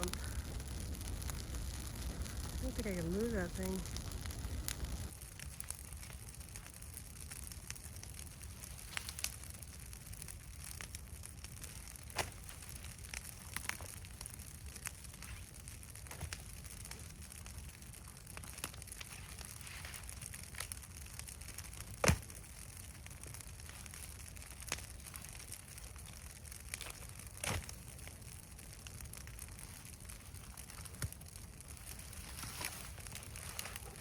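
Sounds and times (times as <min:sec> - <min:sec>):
brush fire crackling: 0:00.0 - 0:34.0.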